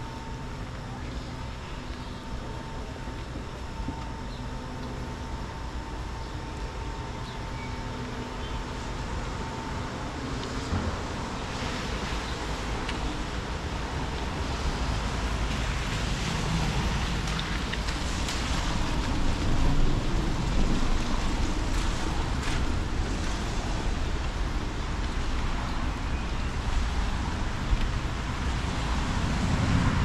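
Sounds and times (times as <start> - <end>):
distant traffic rumble: 0.0 - 30.0.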